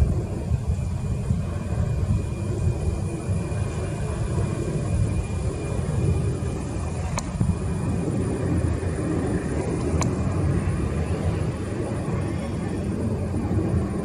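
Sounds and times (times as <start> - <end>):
faint high whine: 0.0 - 14.0
jet engines rumbling: 0.0 - 14.0.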